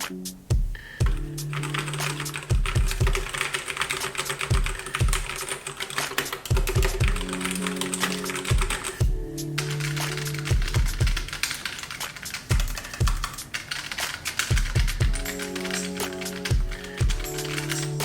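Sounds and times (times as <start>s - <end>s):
background music with beat: 0.0s - 18.0s
mechanical keyboard typing: 1.1s - 18.0s.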